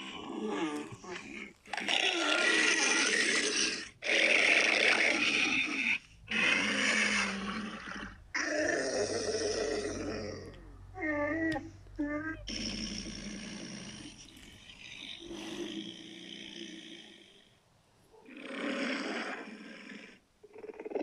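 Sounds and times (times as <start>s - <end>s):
harsh monster roars: 0.0s - 11.7s, 12.4s - 17.4s, 18.2s - 21.0s.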